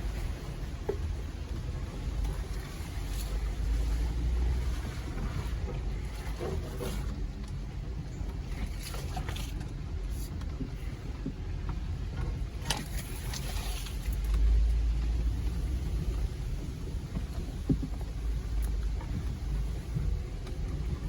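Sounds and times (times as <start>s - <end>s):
vehicle engine rumble: 0.0s - 21.0s
knocks and creaks: 3.9s - 21.0s.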